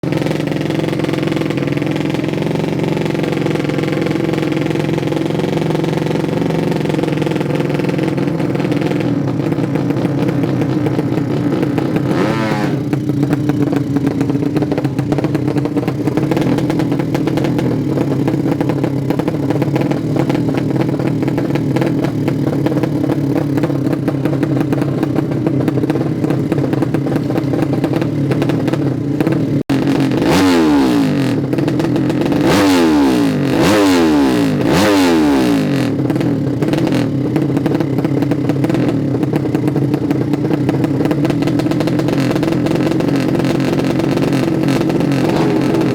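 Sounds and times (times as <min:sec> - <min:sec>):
racing motorcycle engine running: 0:00.0 - 0:45.9.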